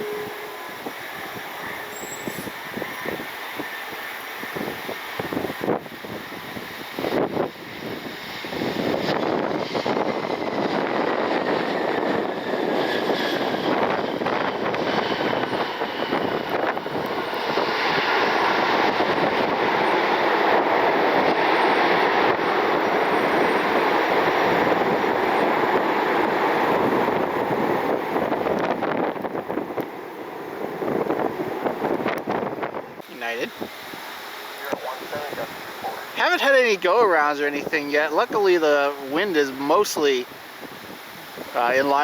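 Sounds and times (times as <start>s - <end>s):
faint engine whine: 0.0s - 36.4s
jet engines rushing: 0.0s - 42.0s
wind buffeting microphone: 0.0s - 42.0s.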